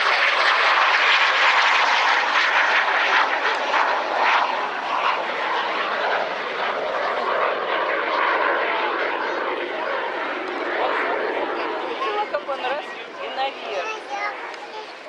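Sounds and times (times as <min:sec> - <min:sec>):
jet engine roaring: 0:00.0 - 0:15.0.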